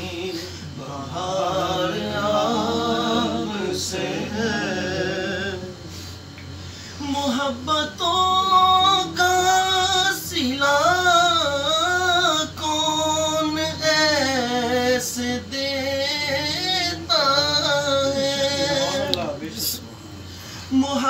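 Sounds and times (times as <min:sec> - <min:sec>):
man singing unaccompanied: 0:00.0 - 0:05.8, 0:07.0 - 0:19.8, 0:20.7 - 0:21.0.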